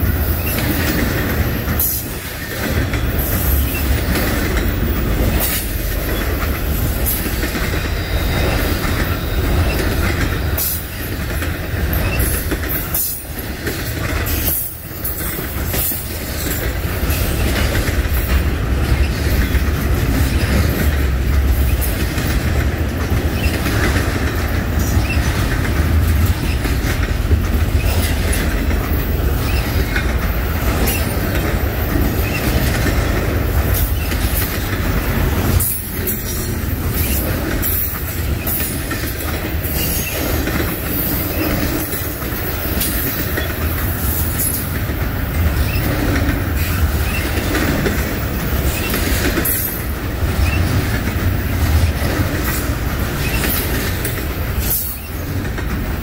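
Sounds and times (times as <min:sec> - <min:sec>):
train wheels rumbling on rails: 0:00.0 - 0:56.0
wheels clicking over rail joints: 0:00.0 - 0:56.0.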